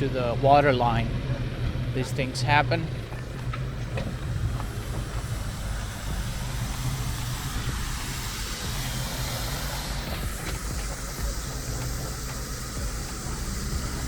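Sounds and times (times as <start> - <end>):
broad steady hiss: 0.0 - 14.0
heavy equipment engine idling: 0.0 - 14.0.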